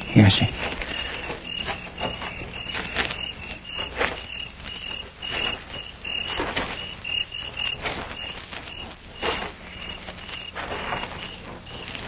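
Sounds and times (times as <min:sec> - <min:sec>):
crickets chirping: 0:00.0 - 0:12.0
slow footsteps: 0:00.0 - 0:12.0.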